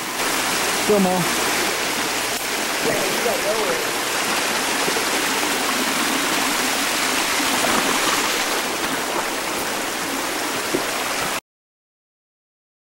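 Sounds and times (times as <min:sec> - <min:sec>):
water rushing over rocks: 0:00.0 - 0:11.4.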